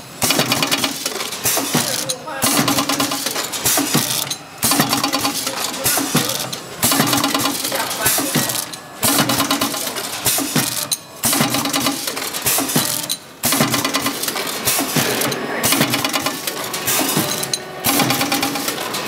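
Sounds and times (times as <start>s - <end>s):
packing machine clattering: 0.2s - 19.0s.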